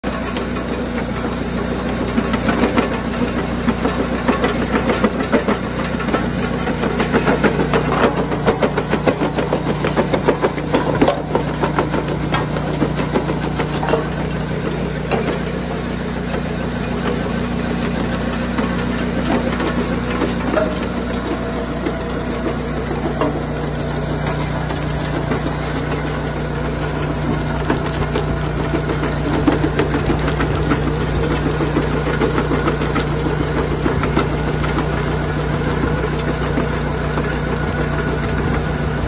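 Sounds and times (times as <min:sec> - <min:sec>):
petrol engine running: 0:00.0 - 0:39.0
brick cracking and rattling: 0:00.4 - 0:39.0.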